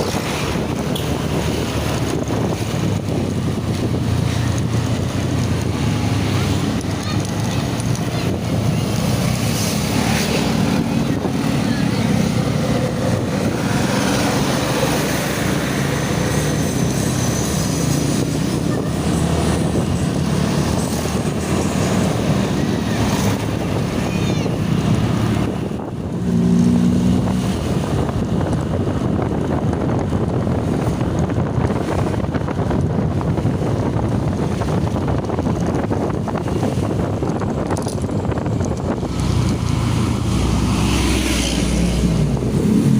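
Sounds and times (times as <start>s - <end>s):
bus and truck engines passing: 0.0s - 42.9s
wind buffeting microphone: 0.0s - 42.9s.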